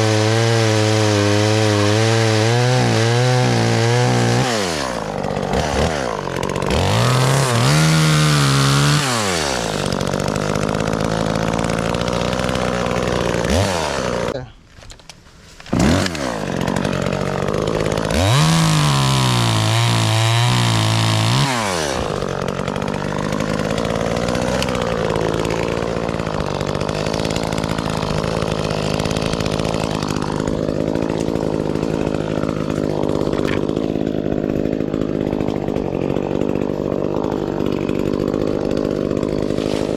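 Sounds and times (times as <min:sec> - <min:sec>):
chainsaw engine revving: 0:00.0 - 0:14.5, 0:15.6 - 0:39.9
chainsaw idling: 0:00.0 - 0:14.6, 0:15.6 - 0:39.9.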